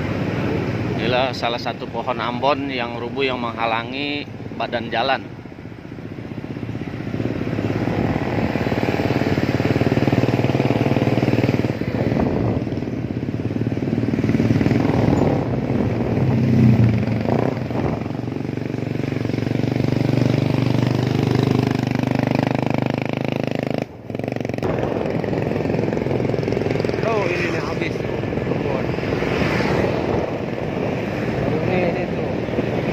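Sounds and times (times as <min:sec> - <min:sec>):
small motorcycle engine running: 0:05.9 - 0:32.9.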